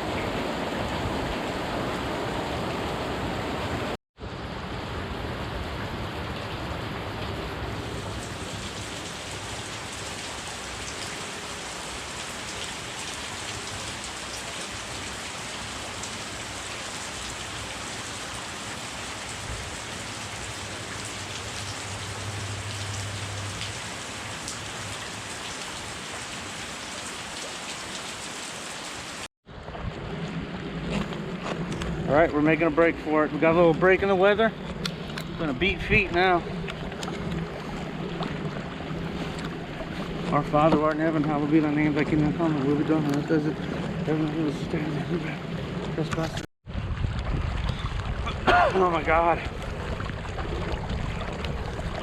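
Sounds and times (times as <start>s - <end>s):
heavy rain falling: 0.0s - 29.3s, 30.1s - 46.5s.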